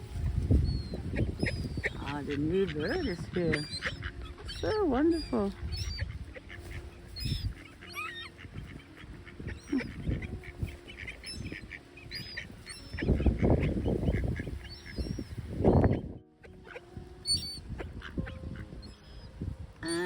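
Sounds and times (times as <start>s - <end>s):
seagulls calling: 0.0s - 20.0s
wind buffeting microphone: 0.0s - 20.0s.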